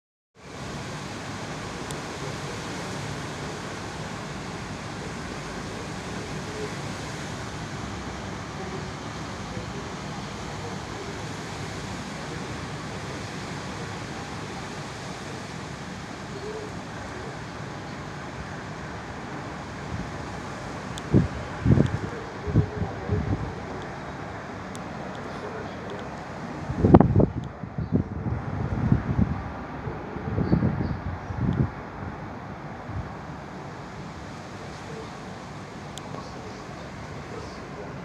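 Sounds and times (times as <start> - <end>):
strong wind blowing: 0.5 - 38.0.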